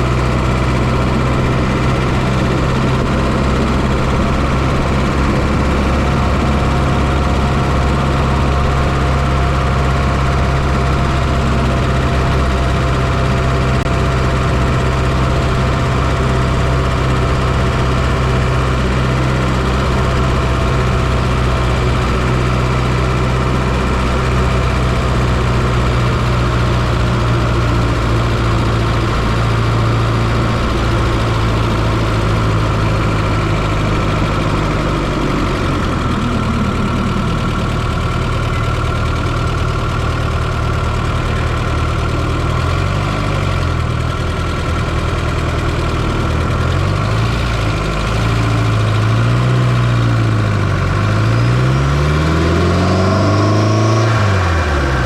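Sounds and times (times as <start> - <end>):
car engine running steadily: 0.0 - 55.0.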